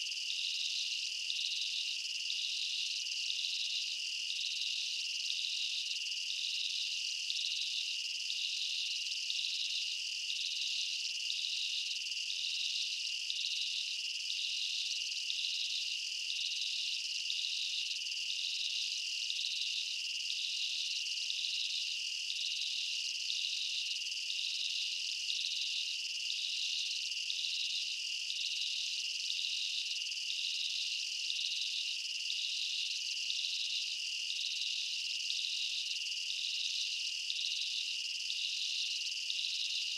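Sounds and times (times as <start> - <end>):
insects droning and pulsing: 0.0 - 39.9.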